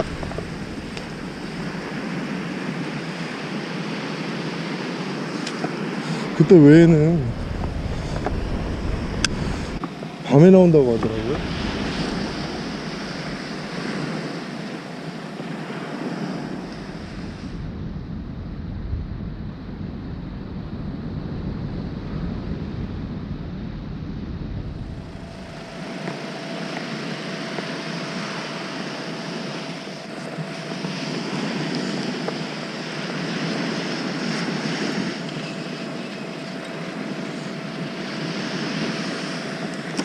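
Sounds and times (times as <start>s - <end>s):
surf breaking on beach: 0.0s - 17.9s, 24.8s - 40.0s
faint steady hum: 0.0s - 40.0s
wind rumbling on microphone: 0.0s - 40.0s.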